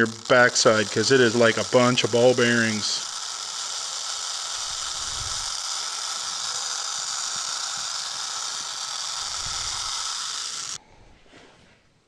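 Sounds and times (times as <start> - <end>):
lead shot pouring through funnel: 0.0 - 10.8.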